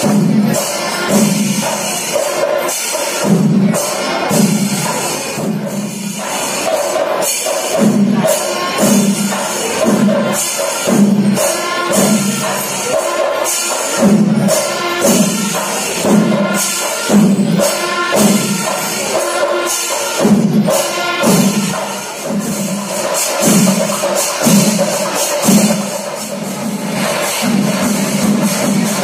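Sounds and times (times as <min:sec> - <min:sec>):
clashing cymbals: 0:00.0 - 0:29.0
steady drum beat: 0:00.0 - 0:29.0.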